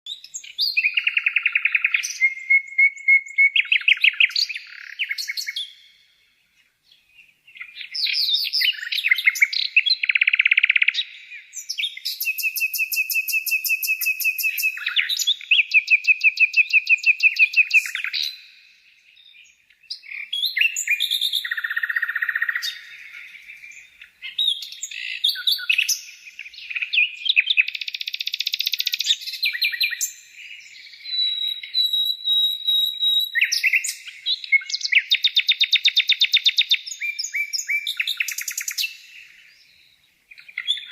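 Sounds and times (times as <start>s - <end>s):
birds chirping and trilling: 0.1s - 40.9s.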